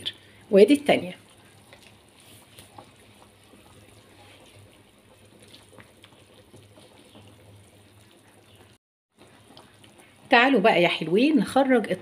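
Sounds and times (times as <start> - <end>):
broth simmering in pot: 0.0 - 12.0
spoon stirring and sloshing: 0.6 - 10.3.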